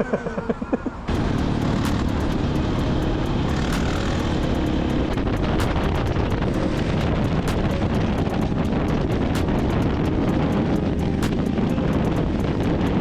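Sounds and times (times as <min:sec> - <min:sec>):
wind rushing over microphone: 0:00.9 - 0:13.0
dirt bike engine running: 0:01.1 - 0:13.0
sharp ticks: 0:01.1 - 0:13.0.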